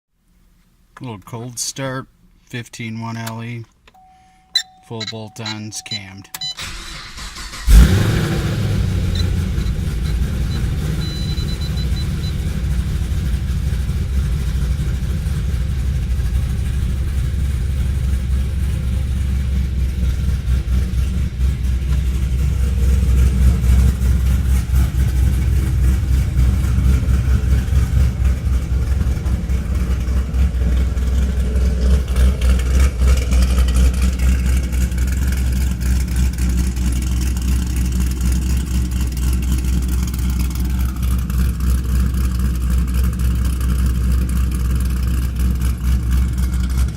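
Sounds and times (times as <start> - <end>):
car engine idling: 6.4 - 46.9.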